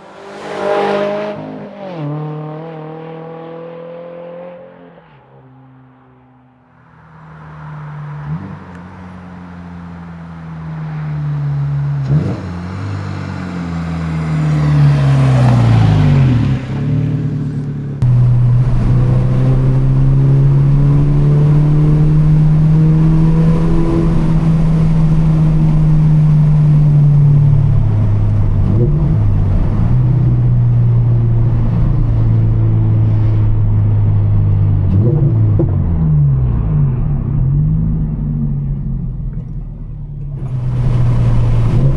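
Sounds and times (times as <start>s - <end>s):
car engine and exhaust accelerating: 0.0s - 41.9s.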